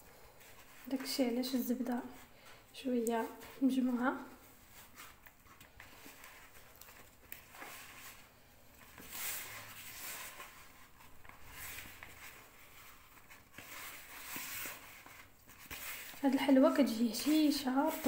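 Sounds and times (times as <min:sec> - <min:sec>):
hand kneading powdery mix: 0:00.0 - 0:18.0.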